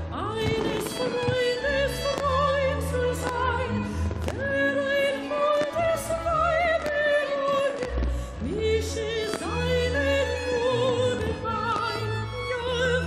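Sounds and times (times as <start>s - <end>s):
woman singing operatically: 0.1s - 13.0s.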